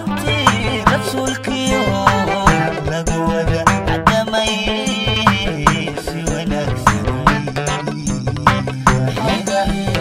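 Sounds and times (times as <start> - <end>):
bass line: 0.0 - 10.0
drum beat: 0.0 - 10.0
oud playing: 0.0 - 10.0.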